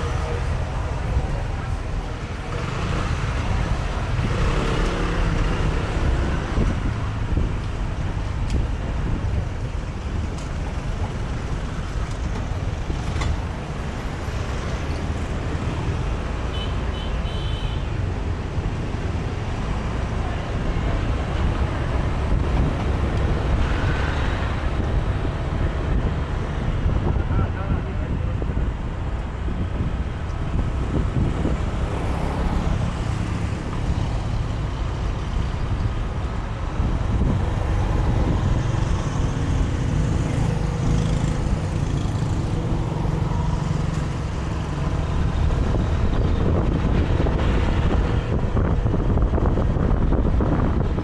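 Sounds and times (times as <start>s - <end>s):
motorbike engines rumbling: 0.0s - 51.0s
street traffic: 0.0s - 51.0s.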